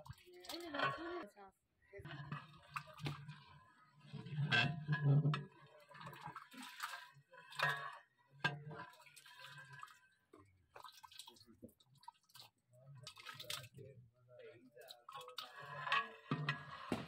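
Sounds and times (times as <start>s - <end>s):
liquid sloshing and dripping: 0.0s - 1.2s, 2.0s - 13.9s, 14.7s - 17.0s.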